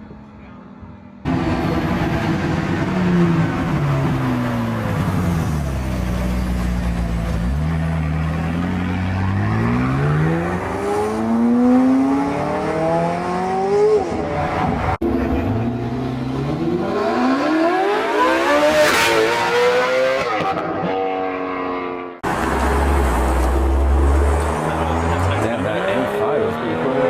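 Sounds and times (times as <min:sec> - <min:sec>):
car engine accelerating hard: 0:01.2 - 0:27.0.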